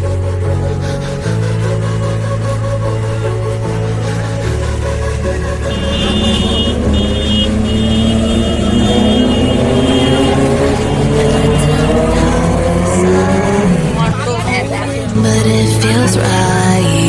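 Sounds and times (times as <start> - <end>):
motorcycle engine accelerating: 2.8 - 16.5.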